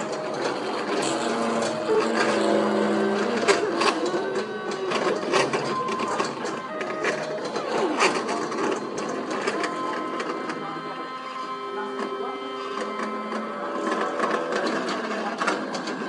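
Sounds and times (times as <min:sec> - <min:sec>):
stepper motor whine: 0:00.0 - 0:16.0.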